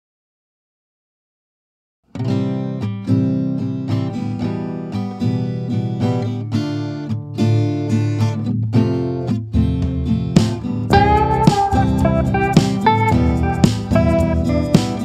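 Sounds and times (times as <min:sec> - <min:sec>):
acoustic guitar plucking: 0:02.1 - 0:15.0.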